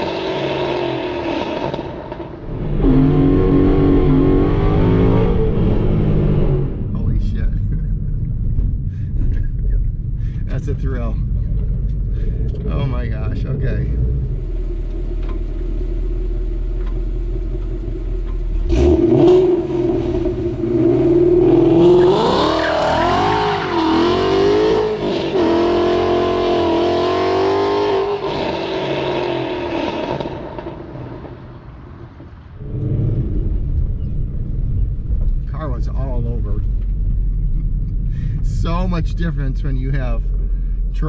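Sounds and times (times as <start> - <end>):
car engine revving: 0.0 - 31.6, 32.5 - 40.5.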